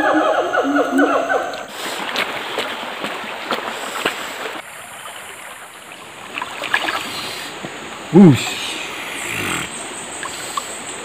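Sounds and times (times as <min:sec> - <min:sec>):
water sloshing in stream: 0:01.6 - 0:11.0.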